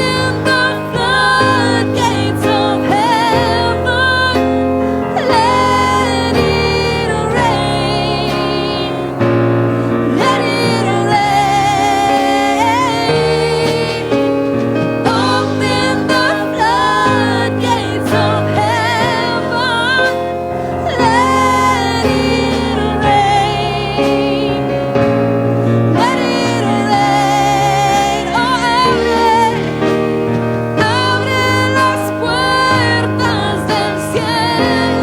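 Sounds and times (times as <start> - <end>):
choir singing: 0.0 - 35.0
piano chords: 0.0 - 35.0
woman singing with vibrato: 0.0 - 35.0.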